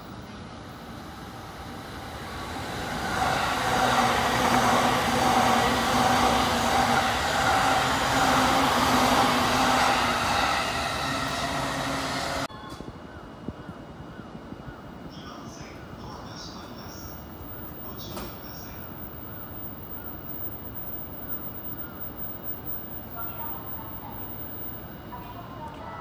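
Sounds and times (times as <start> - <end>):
electric train passing: 0.0 - 13.5, 15.9 - 26.0.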